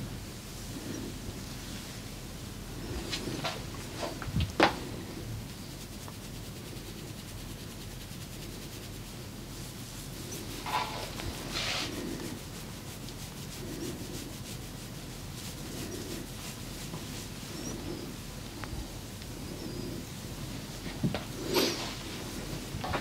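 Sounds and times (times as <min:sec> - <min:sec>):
hands rubbing over skin: 0:02.8 - 0:23.0.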